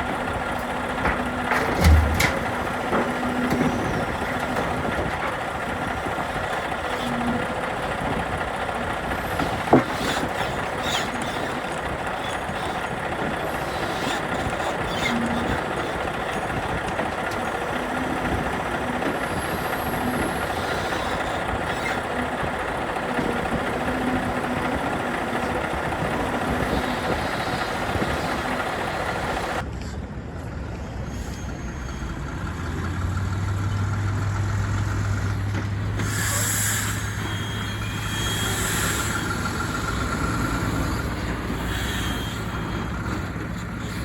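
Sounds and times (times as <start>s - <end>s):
heavy truck engine and road noise: 0.0s - 44.0s.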